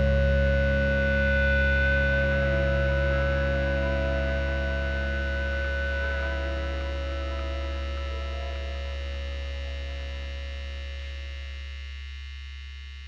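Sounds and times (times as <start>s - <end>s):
deep low note: 0.0s - 11.5s
distorted electric guitar chord: 0.0s - 11.9s.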